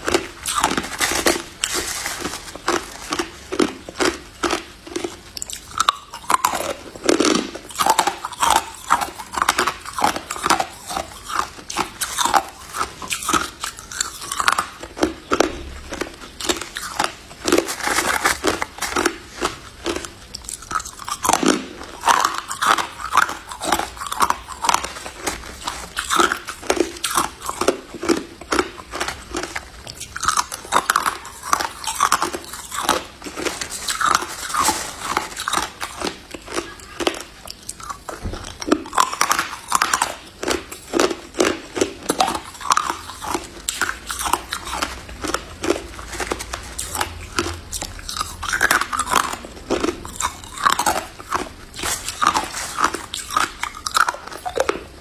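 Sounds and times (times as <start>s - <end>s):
person chewing ice: 0.0s - 55.0s.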